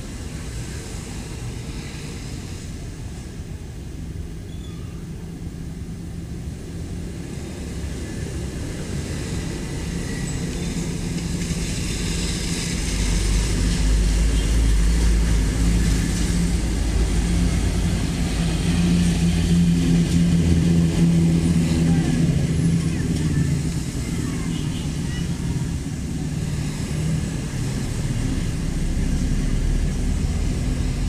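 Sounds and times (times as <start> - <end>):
truck engine running: 5.1 - 31.0.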